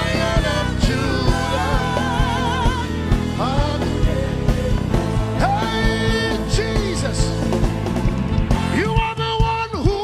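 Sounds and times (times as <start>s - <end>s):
band chords: 0.0s - 10.0s
steady drum beat: 0.0s - 10.0s.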